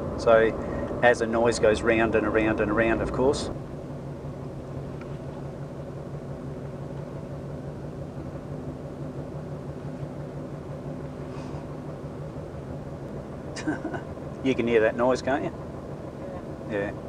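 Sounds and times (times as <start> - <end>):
low road drone: 0.0 - 17.0.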